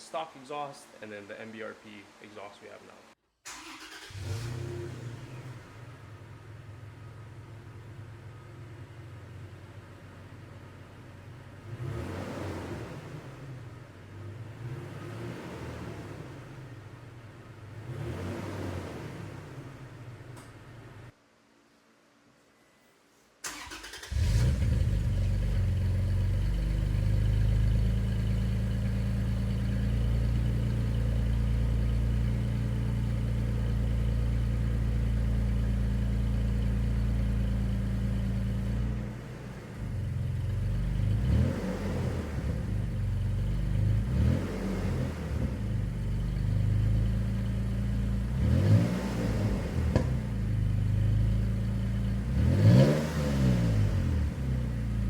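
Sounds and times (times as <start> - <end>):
truck engine idling and revving: 3.9 - 21.1, 24.0 - 55.0.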